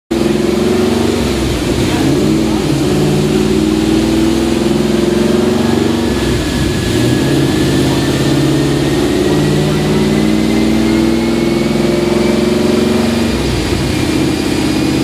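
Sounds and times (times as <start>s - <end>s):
car engine running at low revs: 0.1s - 15.0s.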